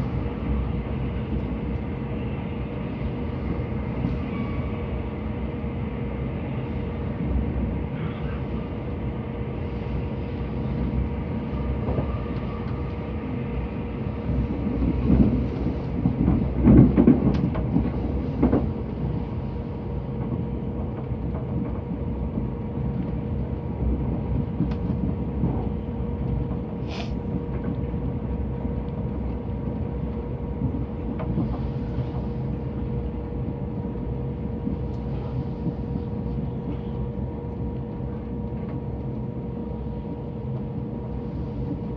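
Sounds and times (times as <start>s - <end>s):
train wheels rumbling on rail: 0.0s - 41.9s
constant hum: 5.4s - 41.9s.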